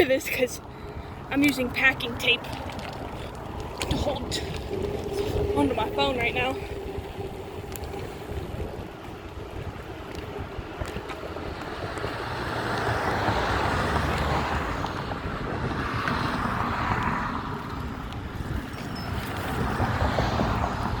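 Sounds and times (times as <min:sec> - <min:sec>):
tyre and road rumble: 0:00.0 - 0:21.0
wind buffeting microphone: 0:00.0 - 0:21.0.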